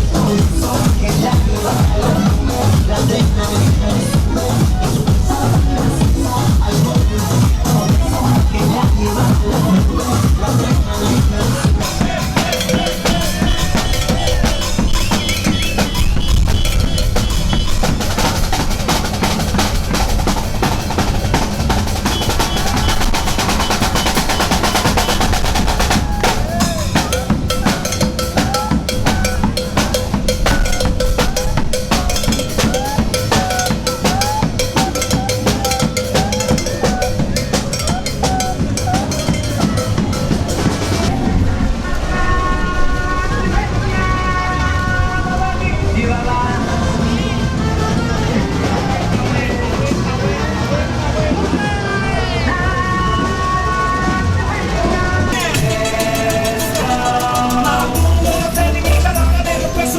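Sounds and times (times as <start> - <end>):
fast drums and percussion: 0.0 - 41.9, 44.5 - 59.9.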